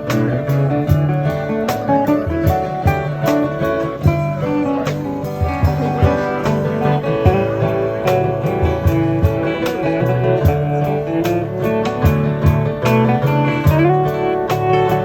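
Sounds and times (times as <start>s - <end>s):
country band instrumental: 0.0s - 15.0s.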